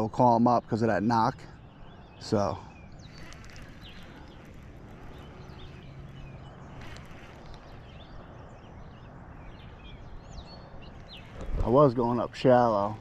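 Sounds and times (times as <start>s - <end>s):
small birds chirping: 0.0s - 13.0s
steady low outdoor hiss: 0.0s - 13.0s.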